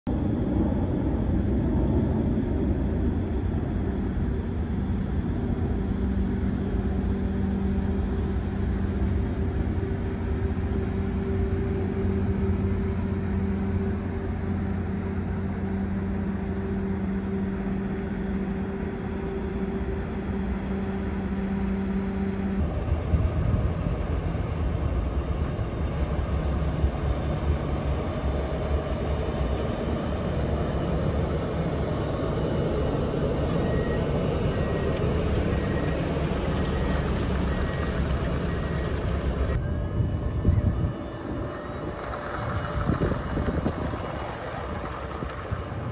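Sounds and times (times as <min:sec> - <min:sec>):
low mechanical hum drone: 0:00.0 - 0:45.9
gusty low rumble: 0:00.1 - 0:21.0, 0:22.3 - 0:45.9.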